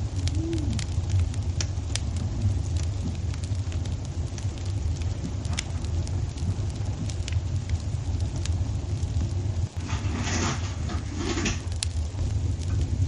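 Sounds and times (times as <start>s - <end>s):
fire crackles and pops: 0.0s - 13.0s
fire rumbling in fireplace: 0.0s - 13.0s.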